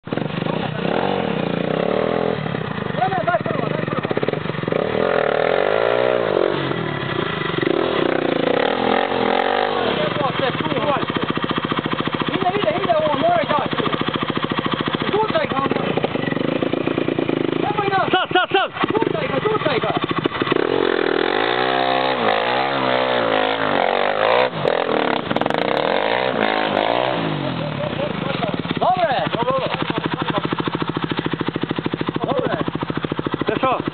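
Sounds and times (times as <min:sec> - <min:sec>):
quad engine revving: 0:00.0 - 0:33.9.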